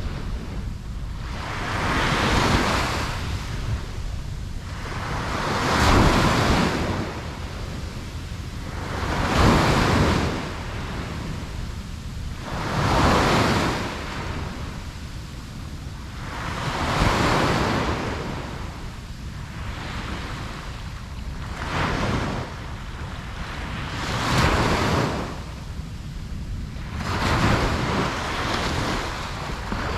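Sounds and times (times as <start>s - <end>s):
ocean surf washing onto beach: 0.0s - 29.9s.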